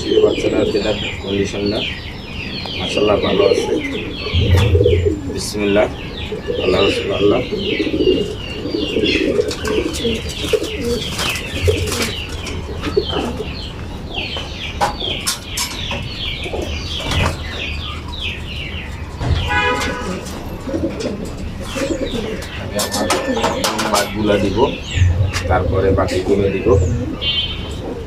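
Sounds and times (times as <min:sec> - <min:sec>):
birds chirping: 0:00.0 - 0:28.0
pigeons cooing: 0:00.0 - 0:28.0.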